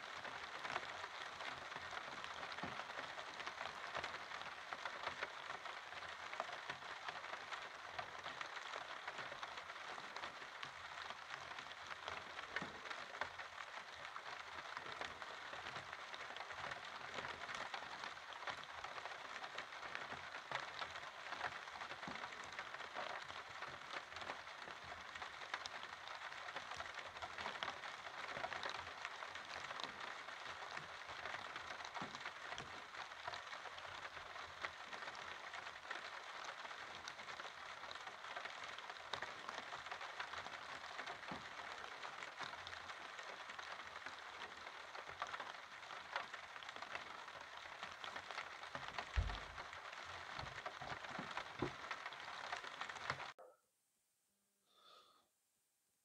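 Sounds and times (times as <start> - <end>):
steady rain falling: 0.0 - 53.4.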